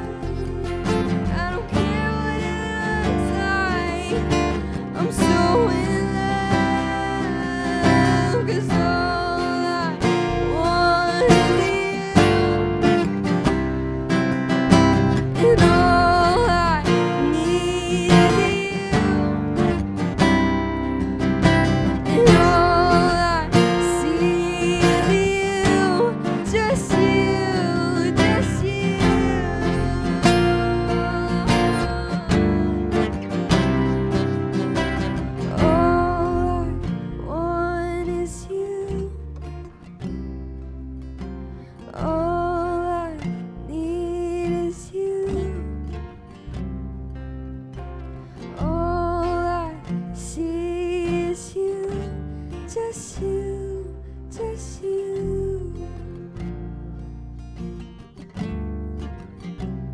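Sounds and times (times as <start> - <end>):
person singing: 0.0 - 39.6, 41.8 - 45.8, 48.6 - 56.2
strummed acoustic guitar: 0.0 - 59.9.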